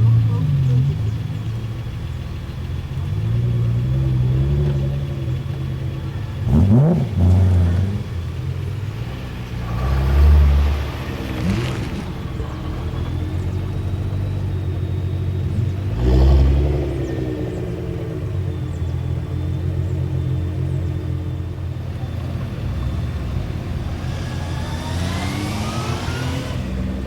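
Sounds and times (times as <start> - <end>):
engine revving in blips: 0.0 - 27.0
sports car engine idling: 0.0 - 27.0.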